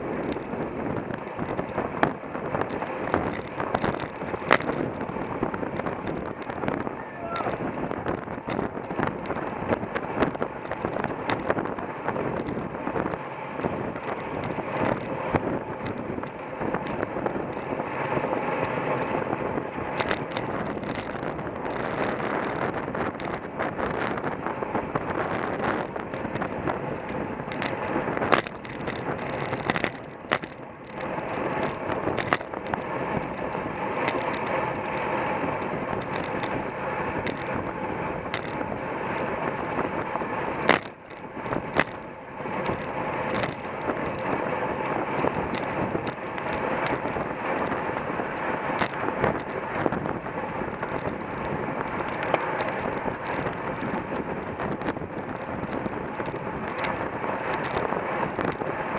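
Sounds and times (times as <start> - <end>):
bike rattle: 0.0 - 58.9
wind on microphone: 0.0 - 58.9.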